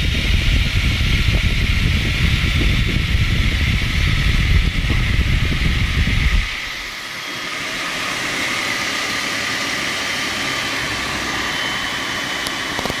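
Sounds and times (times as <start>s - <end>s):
saw blade and motor humming: 0.0s - 13.0s.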